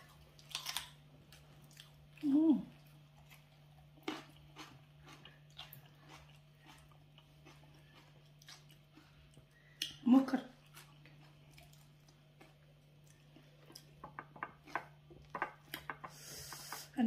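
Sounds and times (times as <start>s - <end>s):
people eating by hand: 0.0s - 16.9s
steady low hum: 0.0s - 17.0s.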